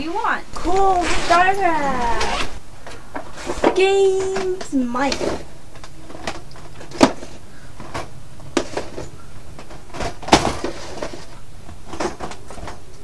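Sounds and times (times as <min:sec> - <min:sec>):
plastic cases clacking: 0:01.9 - 0:13.0.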